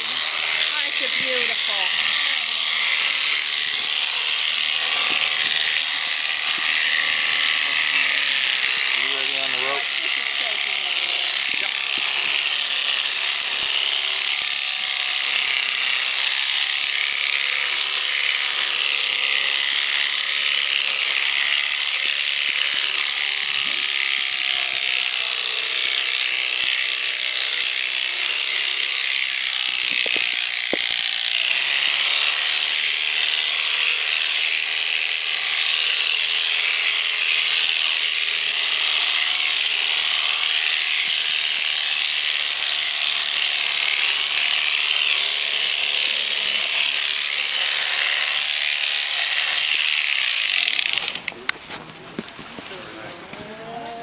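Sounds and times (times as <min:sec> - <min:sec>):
electric shearing handpiece running: 0:00.0 - 0:54.0.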